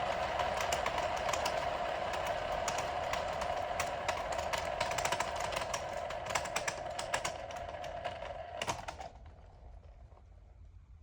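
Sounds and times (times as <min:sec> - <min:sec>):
rapid clatter of ticks: 0:00.1 - 0:09.1.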